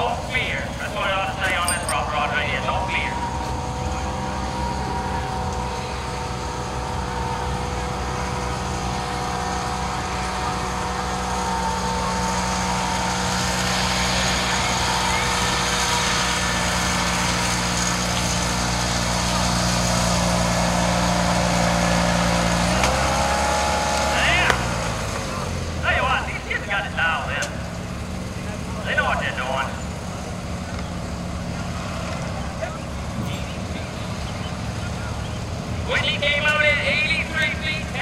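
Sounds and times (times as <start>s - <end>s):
small tractor engine running: 0.0s - 38.0s.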